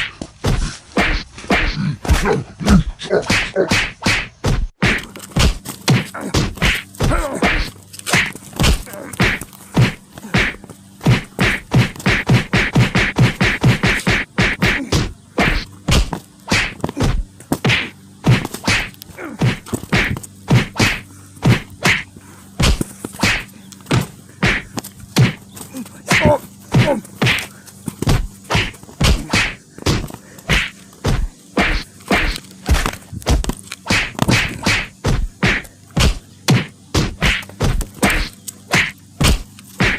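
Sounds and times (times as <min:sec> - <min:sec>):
sharp whacks and thuds: 0:00.0 - 0:25.4, 0:26.1 - 0:39.9.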